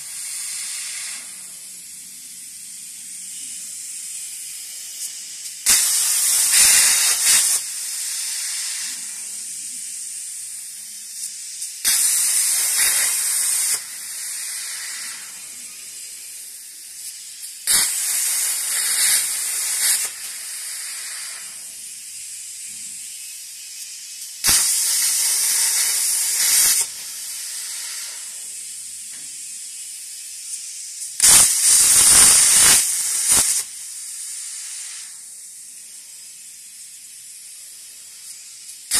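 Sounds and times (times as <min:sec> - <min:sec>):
plasma torch loud high hiss: 0:00.0 - 0:38.9.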